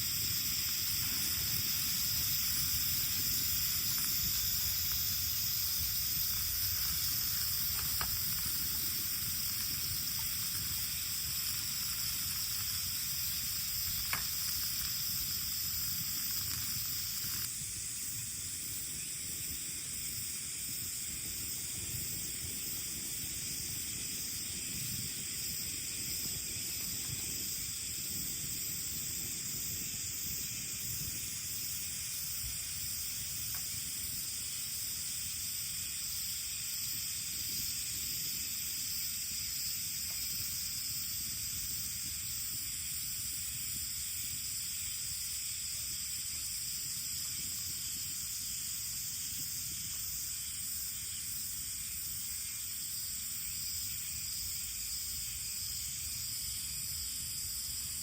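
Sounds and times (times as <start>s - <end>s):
insects shrilling: 0.0s - 58.0s.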